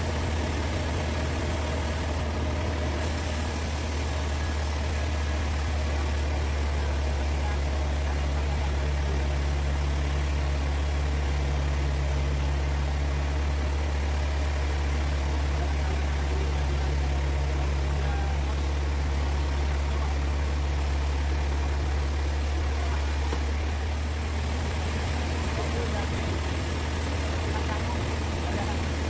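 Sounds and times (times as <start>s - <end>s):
engine idling deep hum: 0.0s - 29.0s.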